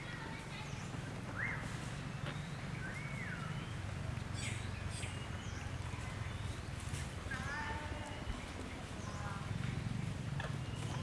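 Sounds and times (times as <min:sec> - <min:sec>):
faint high chirping calls: 0:00.0 - 0:11.0.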